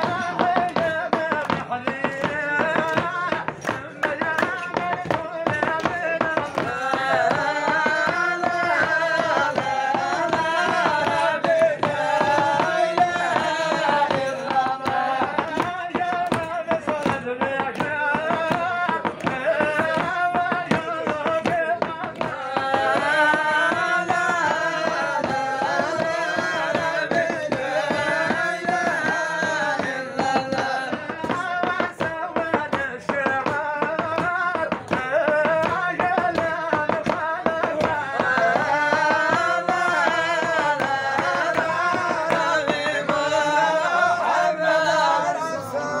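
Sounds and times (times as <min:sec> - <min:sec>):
men singing together: 0:00.0 - 0:46.0
percussive beat: 0:00.0 - 0:46.0.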